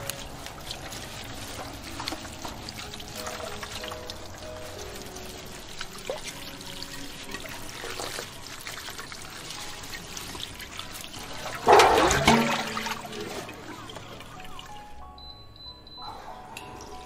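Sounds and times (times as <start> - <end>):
greens rubbed by hand in water: 0.0 - 14.8
tap water running into steel basin: 0.0 - 15.0
water pouring onto ground: 0.0 - 15.0.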